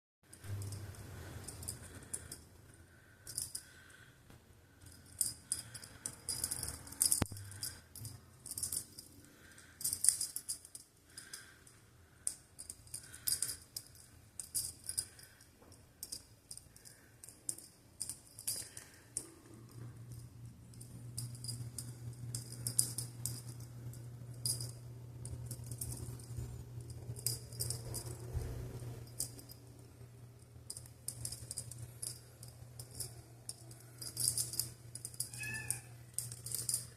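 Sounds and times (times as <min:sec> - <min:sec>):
steady low hum: 0:00.3 - 0:36.9
small hard things clicking together: 0:04.8 - 0:28.2, 0:30.6 - 0:36.9.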